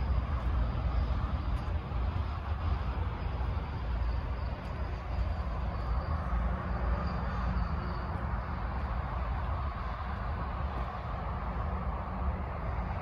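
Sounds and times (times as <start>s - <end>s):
faint insects chirring: 0.0s - 13.0s
motorway traffic rumble: 0.0s - 13.0s.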